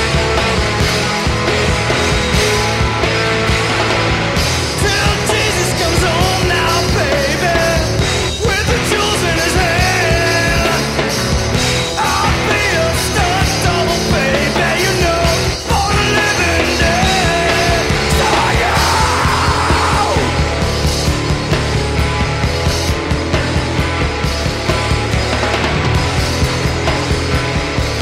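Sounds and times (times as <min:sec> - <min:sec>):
full rock band playing: 0:00.0 - 0:28.0
sliding melodic guitar line: 0:00.0 - 0:28.0.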